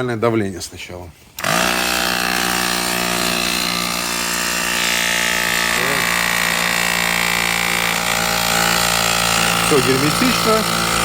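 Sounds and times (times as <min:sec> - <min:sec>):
small air compressor running: 0:01.4 - 0:11.0.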